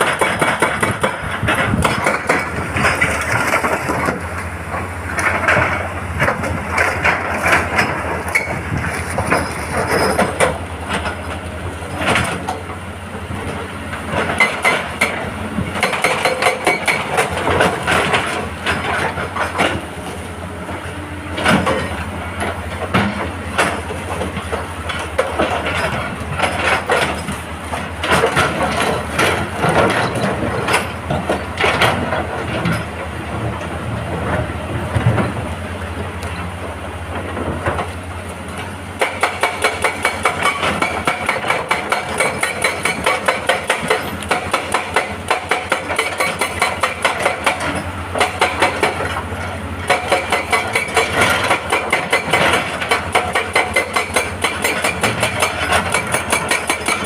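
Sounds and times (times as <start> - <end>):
hydraulic rock breaker hammering: 0.0 - 35.4, 38.6 - 57.0
rock and steel clatter: 0.0 - 35.5, 36.2 - 57.0
excavator diesel engine: 0.0 - 57.0.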